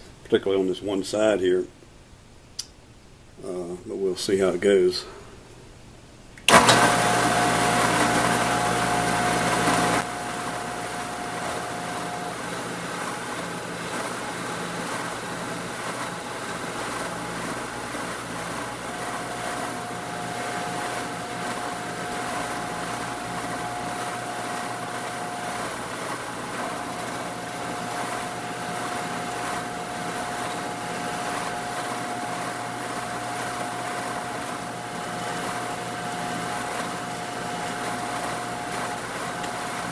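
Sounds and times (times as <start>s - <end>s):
drill bit cutting aluminum: 6.5s - 39.9s
drill press motor running: 6.5s - 39.9s.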